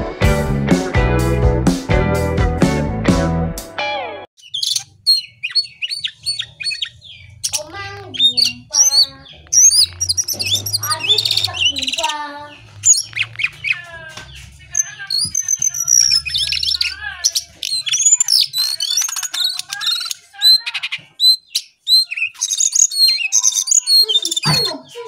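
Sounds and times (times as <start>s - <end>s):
songbird singing chirps and trills: 4.4s - 25.0s.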